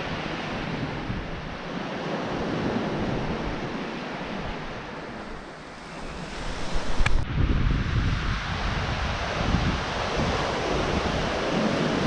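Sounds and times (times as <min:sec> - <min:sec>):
sea waves washing ashore: 0:00.0 - 0:12.0.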